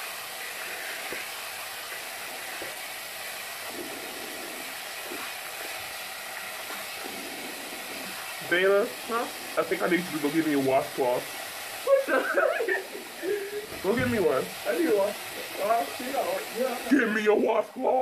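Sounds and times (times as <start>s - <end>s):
tap water running into sink: 0.0s - 17.6s.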